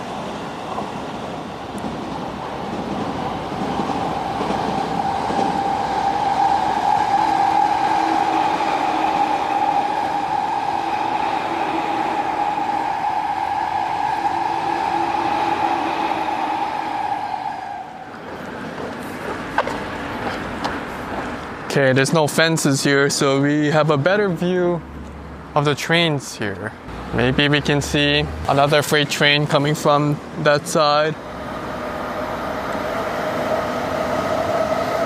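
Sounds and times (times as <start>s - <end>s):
electric train passing: 0.0s - 26.0s, 26.8s - 35.0s.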